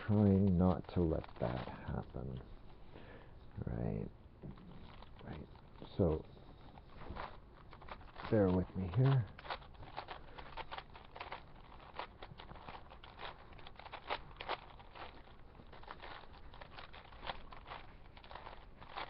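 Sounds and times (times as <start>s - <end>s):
puzzle cube layers turning clicks: 0.0s - 2.8s, 3.5s - 19.0s.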